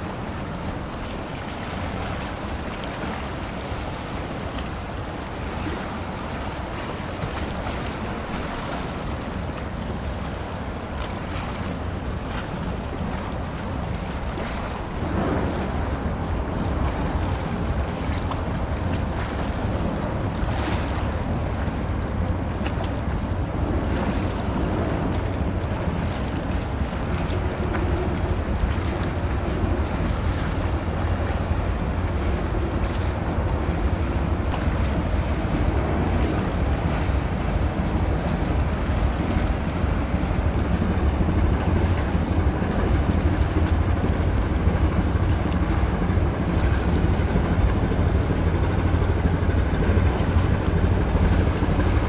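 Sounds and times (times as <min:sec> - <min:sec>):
water rushing: 0:00.0 - 0:52.0
wind buffeting microphone: 0:00.0 - 0:52.0.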